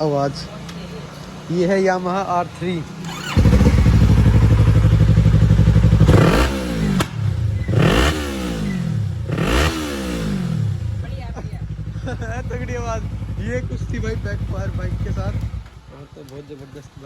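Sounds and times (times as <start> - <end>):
motorcycle engine revving: 2.9 - 17.0.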